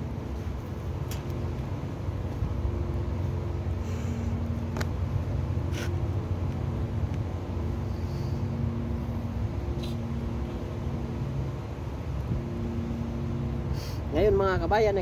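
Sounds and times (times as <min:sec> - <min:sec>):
faint steady hum: 0:00.0 - 0:15.0
machine droning: 0:00.0 - 0:15.0.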